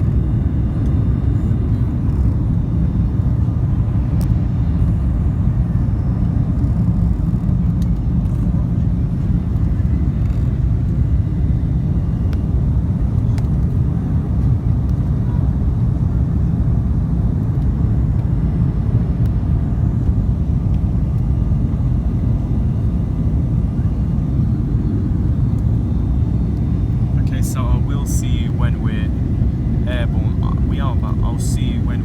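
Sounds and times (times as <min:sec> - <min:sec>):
jet cabin roar: 0:00.0 - 0:32.0.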